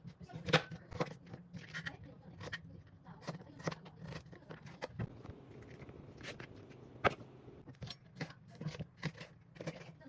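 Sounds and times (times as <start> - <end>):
knife cutting ingredients: 0.0 - 10.0.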